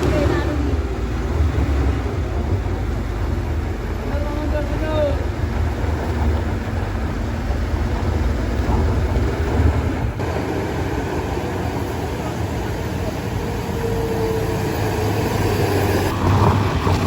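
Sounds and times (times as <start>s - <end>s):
vehicle engine running: 0.0s - 16.7s.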